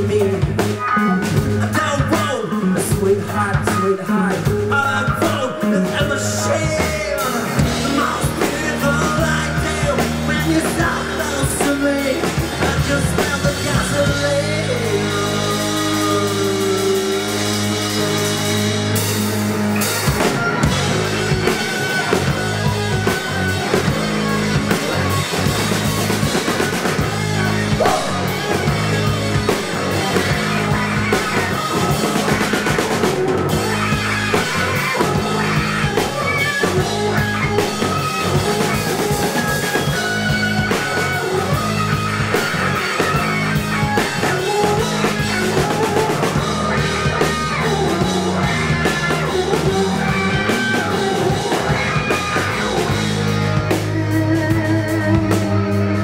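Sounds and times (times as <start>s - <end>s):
bending guitar lead line: 0.0s - 56.0s
drumming: 0.0s - 56.0s
rock band playing loud: 0.0s - 56.0s.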